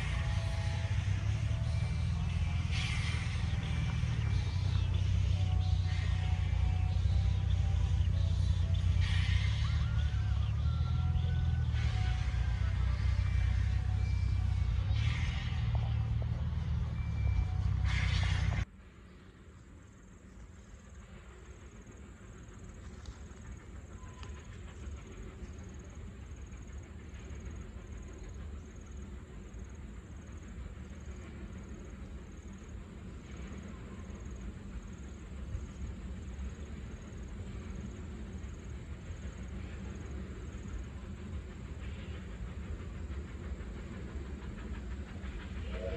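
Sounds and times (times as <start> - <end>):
distant steam train rumble: 0.0 - 45.9.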